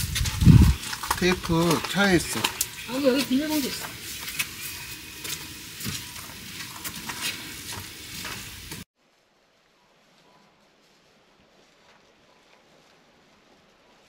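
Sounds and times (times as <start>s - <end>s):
plastic bag rustling: 0.0s - 14.0s.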